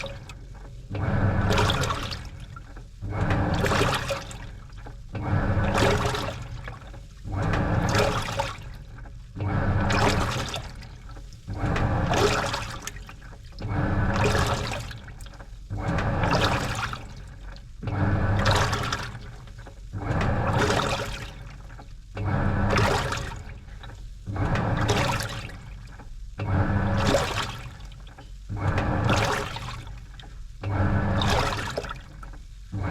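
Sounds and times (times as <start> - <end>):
low motor hum: 0.0 - 32.9
water sloshing in washing machine: 0.0 - 32.9.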